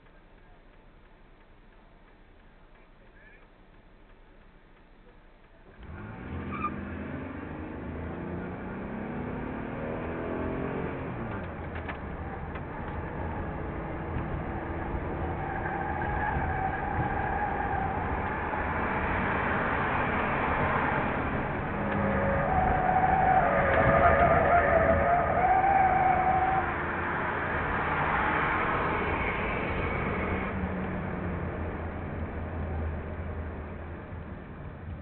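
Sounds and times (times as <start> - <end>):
car engine accelerating hard: 5.7 - 35.0.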